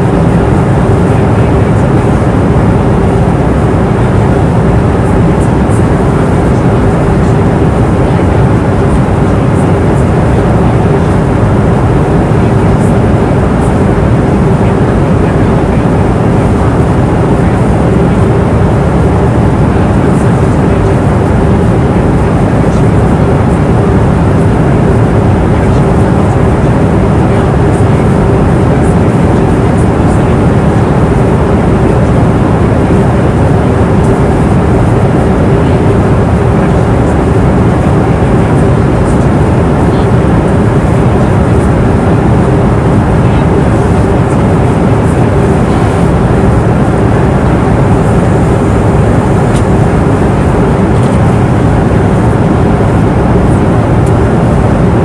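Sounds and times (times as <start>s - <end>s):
airliner cabin noise: 0.0s - 55.0s
constant low hum: 0.0s - 55.0s.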